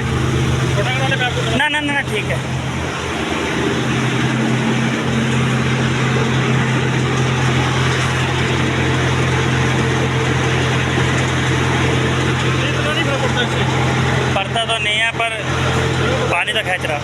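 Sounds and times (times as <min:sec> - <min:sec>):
suction machine engine humming: 0:00.0 - 0:17.0
water suction rushing: 0:00.0 - 0:17.0.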